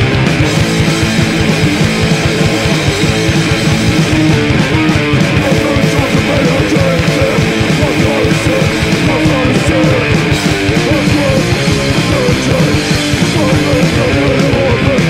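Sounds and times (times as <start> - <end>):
punk band playing loud: 0.0 - 15.0.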